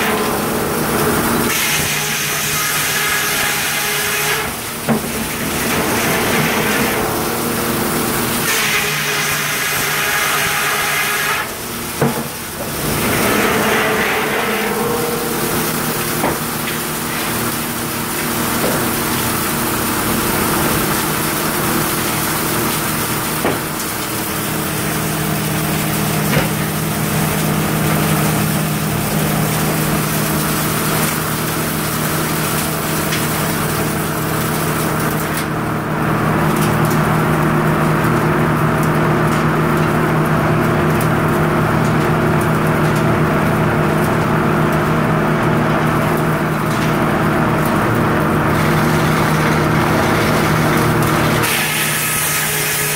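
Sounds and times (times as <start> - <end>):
sawmill machinery drone: 0.0 - 52.9.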